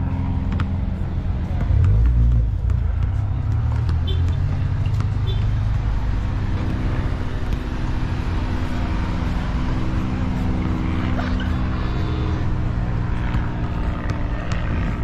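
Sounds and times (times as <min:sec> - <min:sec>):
engine hum: 0:00.0 - 0:15.0
traffic rumble: 0:00.0 - 0:15.0.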